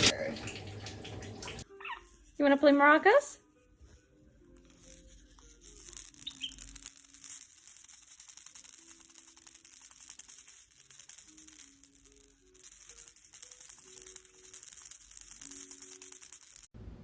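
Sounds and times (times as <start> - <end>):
maraca rattling: 1.6 - 16.7.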